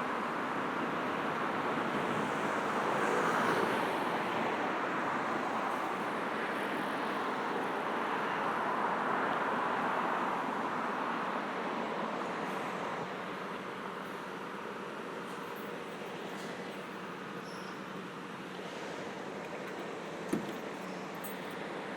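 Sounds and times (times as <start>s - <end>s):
road traffic passing: 0.1s - 21.9s.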